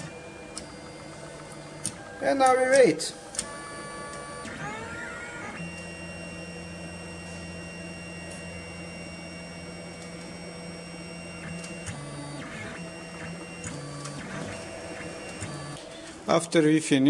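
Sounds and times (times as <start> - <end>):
stepper motors whining: 0.0 - 16.4.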